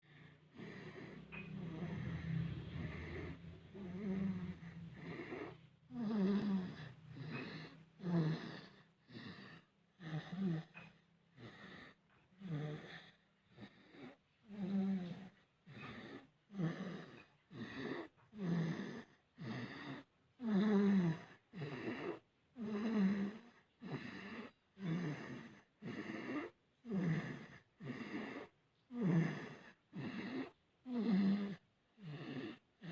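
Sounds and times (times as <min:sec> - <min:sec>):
baby snoring: 0:00.1 - 0:32.9.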